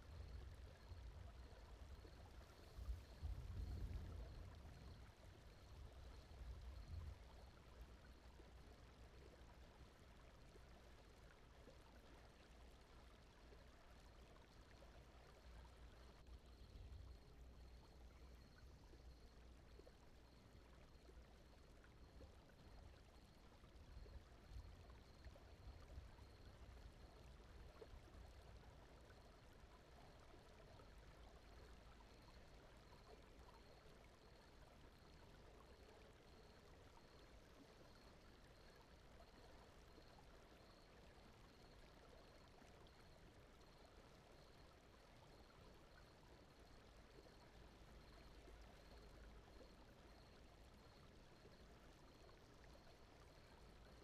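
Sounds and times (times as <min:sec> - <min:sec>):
soft flowing water: 0:00.0 - 0:54.0.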